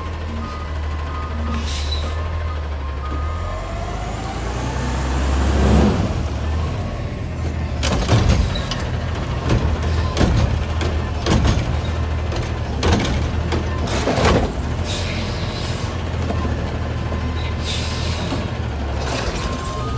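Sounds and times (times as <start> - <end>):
garbage truck engine running: 0.0 - 19.9.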